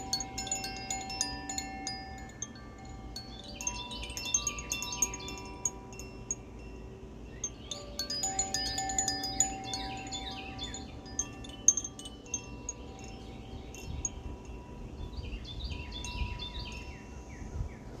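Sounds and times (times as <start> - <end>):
wind chime tinkling: 0.0 - 17.4.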